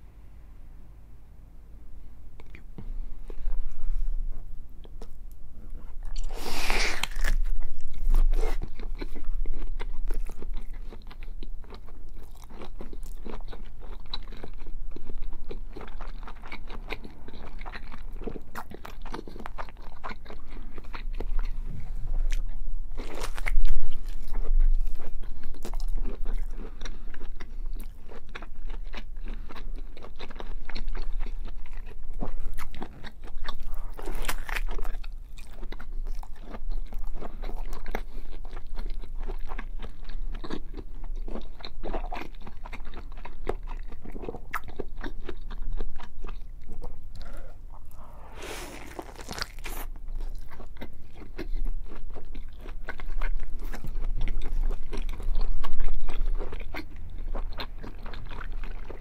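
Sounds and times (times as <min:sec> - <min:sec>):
person chewing bacon: 0:04.3 - 0:59.0.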